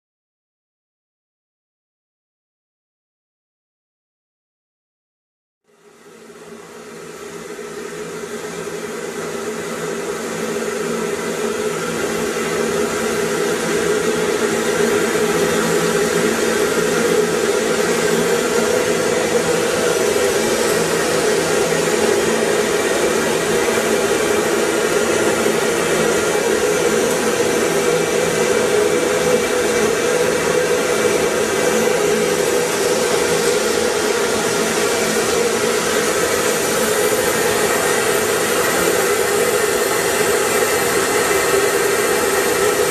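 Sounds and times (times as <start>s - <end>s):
industrial vacuum hissing: 6.0s - 42.9s.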